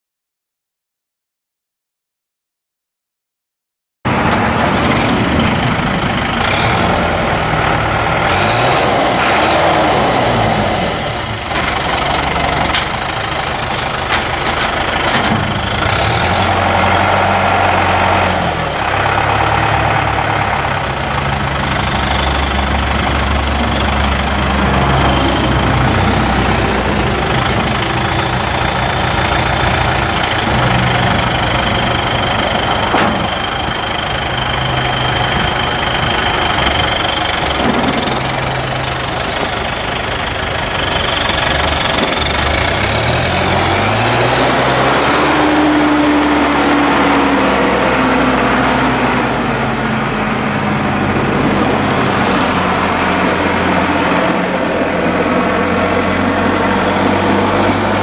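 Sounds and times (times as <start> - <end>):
tractor diesel engine revving: 4.1 - 58.0.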